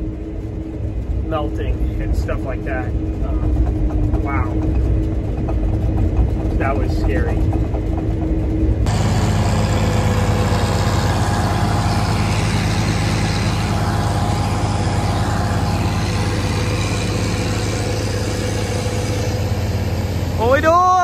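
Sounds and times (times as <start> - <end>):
combine harvester engine hum: 0.0 - 21.0
machinery whine: 0.0 - 21.0.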